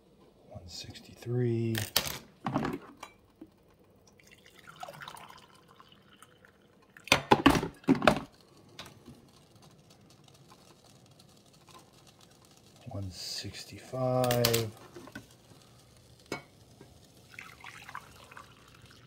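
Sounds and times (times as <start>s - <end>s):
coffee pouring into mug: 3.5s - 19.0s.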